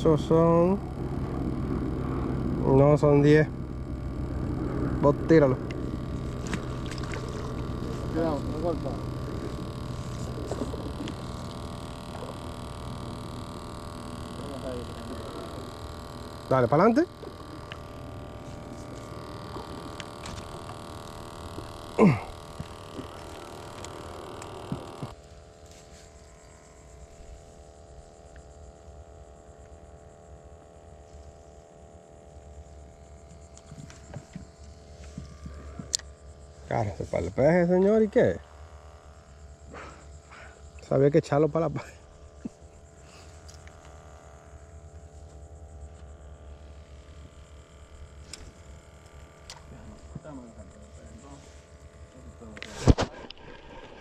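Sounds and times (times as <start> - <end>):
faint steady whine: 0.0 - 54.0
low hum and rumble: 0.0 - 54.0.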